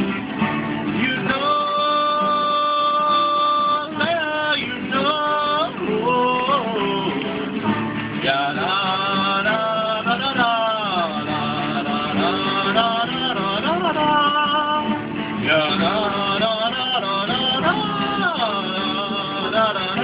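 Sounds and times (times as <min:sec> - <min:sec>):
band music with sliding guitar melody: 0:00.0 - 0:20.0.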